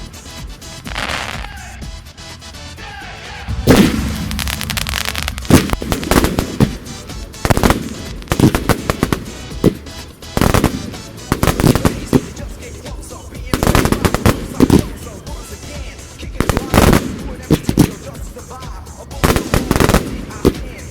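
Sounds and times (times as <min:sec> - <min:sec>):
fireworks bangs and crackles: 0:00.0 - 0:01.7, 0:03.5 - 0:20.9
music playing: 0:00.0 - 0:20.9.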